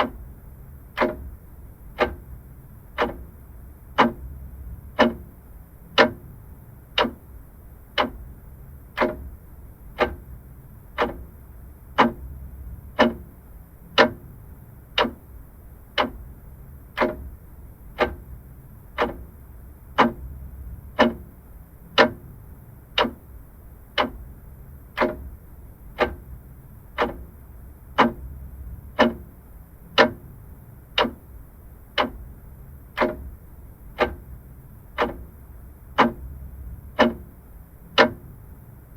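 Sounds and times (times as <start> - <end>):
clock ticking: 0.0 - 0.2, 0.8 - 38.5
faint low rumble: 0.0 - 38.9.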